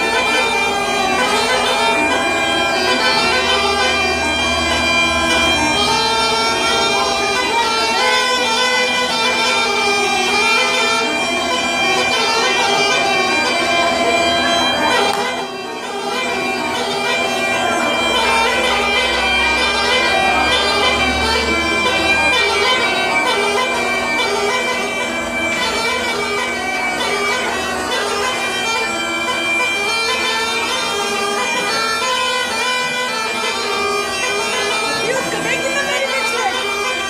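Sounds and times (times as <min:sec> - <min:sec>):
bagpipes playing folk melody: 0:00.0 - 0:37.0.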